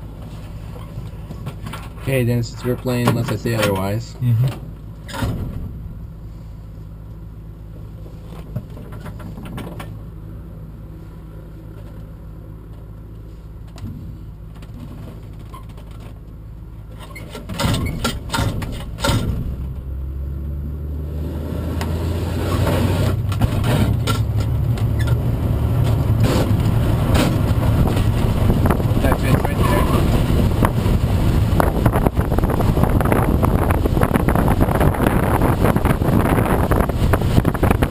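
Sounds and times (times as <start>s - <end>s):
rolling rumble: 0.0s - 37.9s
tow plane engine running: 0.0s - 37.9s.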